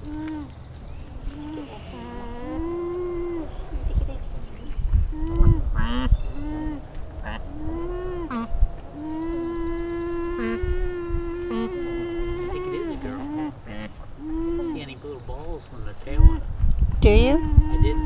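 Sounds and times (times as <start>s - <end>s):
alpacas humming: 0.0s - 18.0s.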